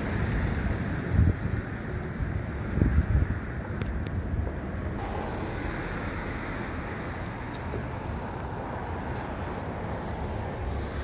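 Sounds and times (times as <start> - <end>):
low rumble of vehicles: 0.0 - 11.0.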